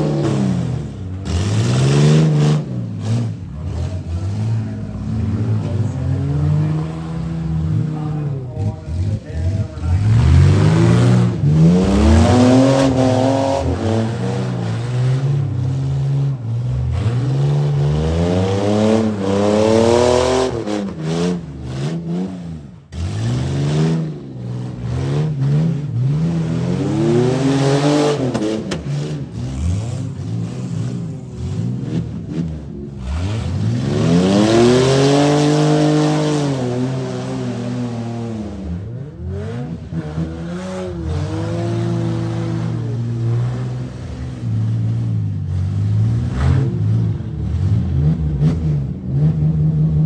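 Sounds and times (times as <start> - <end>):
car engines revving: 0.0 - 50.0.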